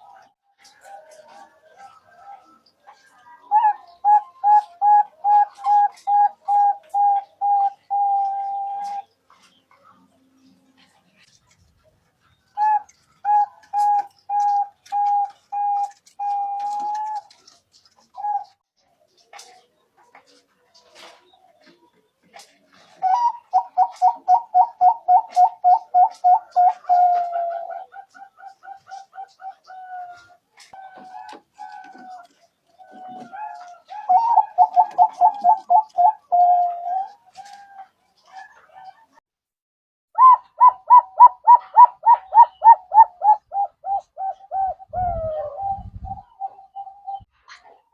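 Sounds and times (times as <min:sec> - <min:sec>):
dove cooing: 0:00.0 - 0:09.5, 0:12.3 - 0:18.6, 0:21.0 - 0:39.0, 0:40.2 - 0:47.3.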